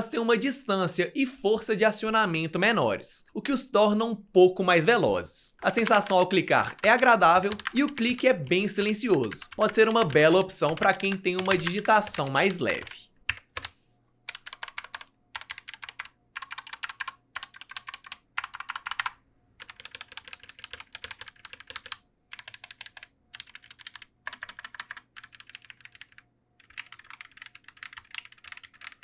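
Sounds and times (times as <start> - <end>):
mechanical keyboard typing: 5.6 - 29.0.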